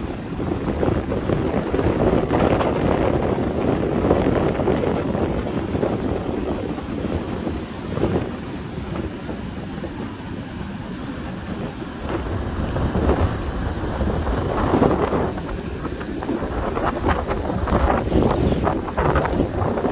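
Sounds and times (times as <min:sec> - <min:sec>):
surf breaking on beach: 0:00.0 - 0:19.9
wind buffeting microphone: 0:00.0 - 0:19.9.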